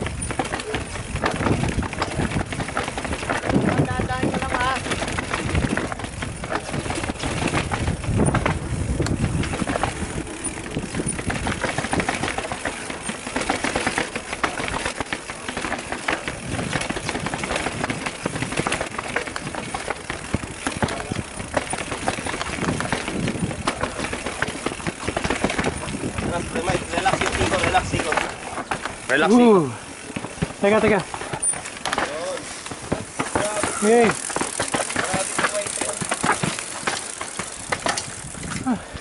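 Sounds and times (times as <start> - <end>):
bike rattling down concrete steps: 0.0 - 39.0.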